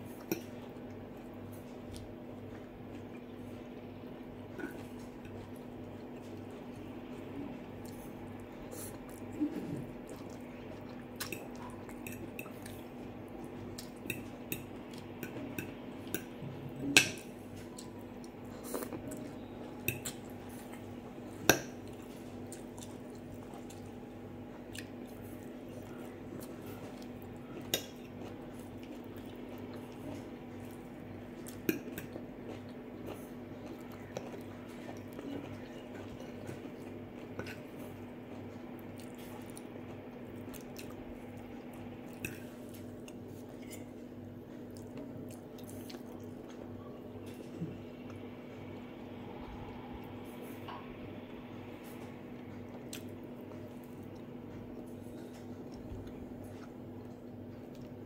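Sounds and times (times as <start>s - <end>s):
steady low hum: 0.0s - 58.0s
chewing: 4.4s - 48.9s, 51.8s - 58.0s.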